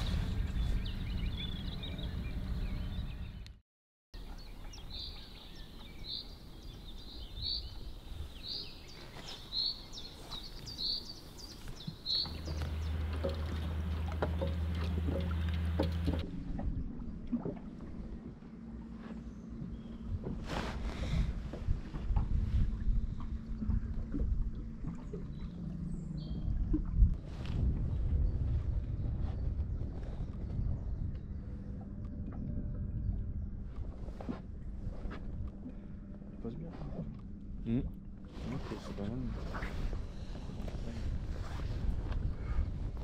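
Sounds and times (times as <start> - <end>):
low steady hum: 4.2 - 43.0.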